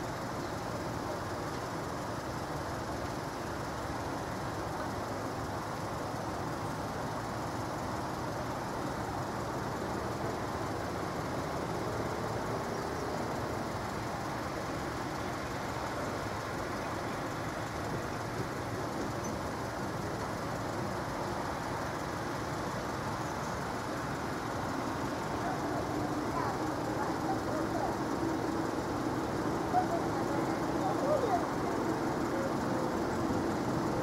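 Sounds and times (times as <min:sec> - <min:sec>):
vehicles idling rumble: 0:00.0 - 0:34.0.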